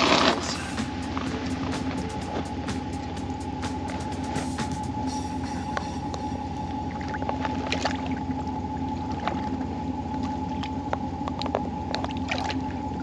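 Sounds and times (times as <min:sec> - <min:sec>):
two-pitch droning hum: 0:00.0 - 0:13.0.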